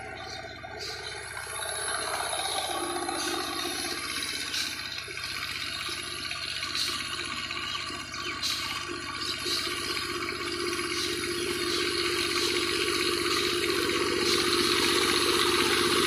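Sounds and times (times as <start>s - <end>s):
tiller diesel engine running: 0.0s - 16.0s.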